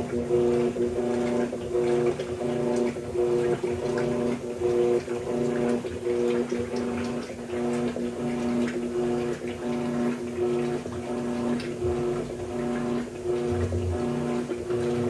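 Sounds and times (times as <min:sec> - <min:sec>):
washing machine motor humming: 0:00.0 - 0:15.0
water churning in tub: 0:00.0 - 0:15.0.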